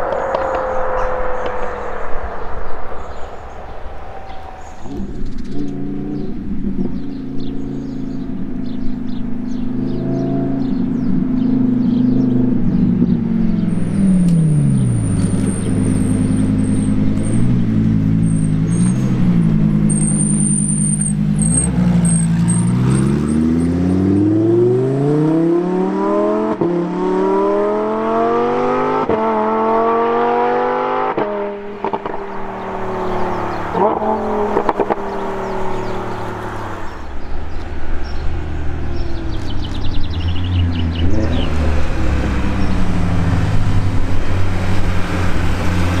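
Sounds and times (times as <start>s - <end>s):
supercar engine revving: 4.8s - 46.0s.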